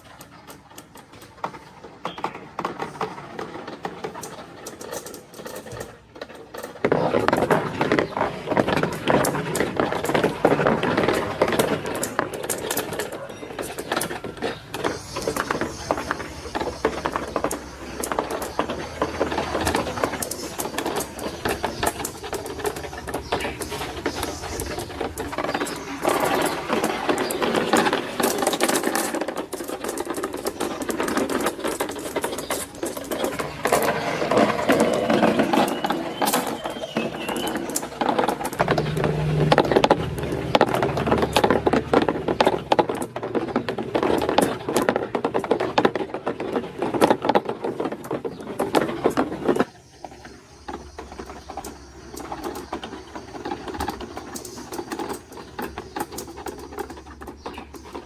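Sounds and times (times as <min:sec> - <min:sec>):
marbles clattering down plastic track: 0:00.0 - 0:58.0.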